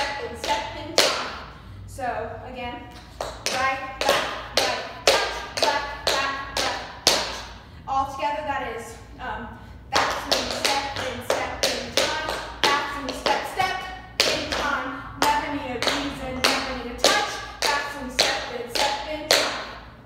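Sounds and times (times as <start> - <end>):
girl singing: 0.0 - 1.3, 3.4 - 7.4, 8.0 - 19.7.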